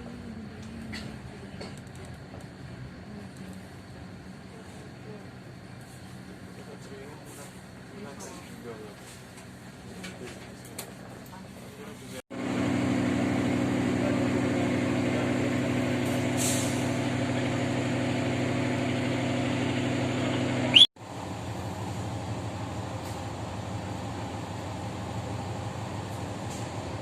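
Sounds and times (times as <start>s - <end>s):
diesel train engine hum: 0.0s - 27.0s.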